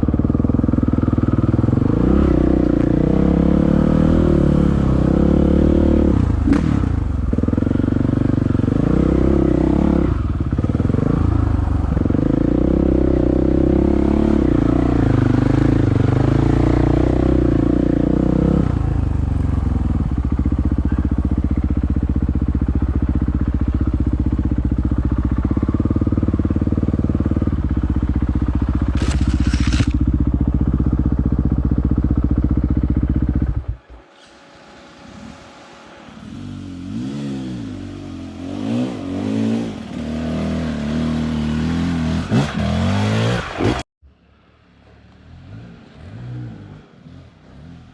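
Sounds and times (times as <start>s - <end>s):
dirt bike engine revving: 0.0s - 33.8s, 35.0s - 43.9s.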